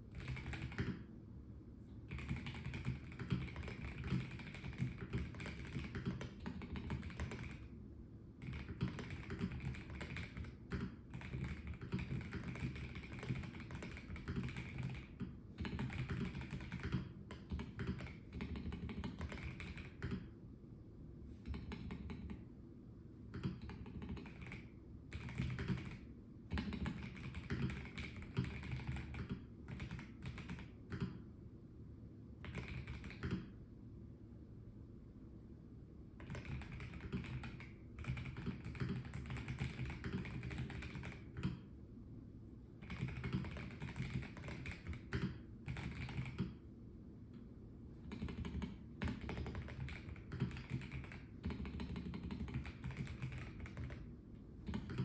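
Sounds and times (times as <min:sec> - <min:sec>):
mechanical keyboard typing: 0:00.1 - 0:01.0, 0:02.1 - 0:07.7, 0:08.4 - 0:20.3, 0:21.4 - 0:22.4, 0:23.3 - 0:31.2, 0:32.4 - 0:33.5, 0:36.2 - 0:41.6, 0:42.8 - 0:46.6, 0:48.0 - 0:55.0.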